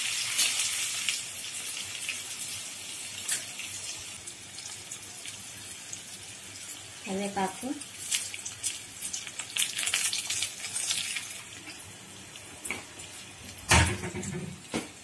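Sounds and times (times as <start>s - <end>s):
leaves sizzling in hot oil: 0.0s - 13.8s.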